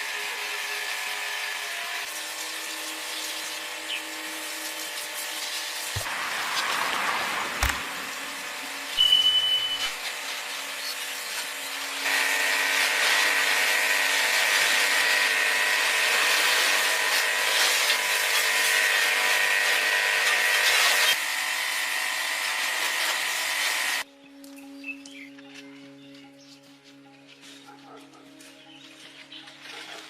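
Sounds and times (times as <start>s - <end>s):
power tool grinding metal: 0.0s - 24.1s.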